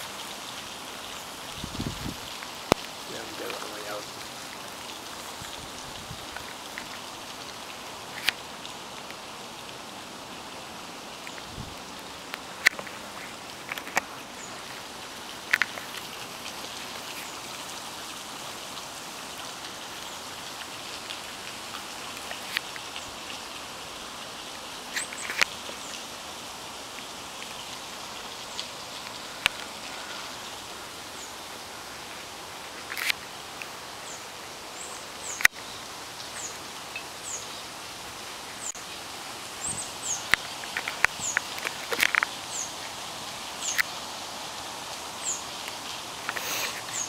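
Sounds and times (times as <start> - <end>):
leaves and branches rustling: 0.0 - 47.0
rain hissing: 0.0 - 47.0.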